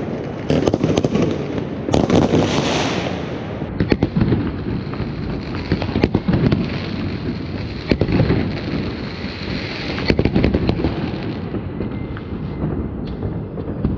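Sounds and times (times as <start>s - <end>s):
fireworks bangs: 0.0s - 13.9s
low rumble of fireworks: 0.0s - 13.9s.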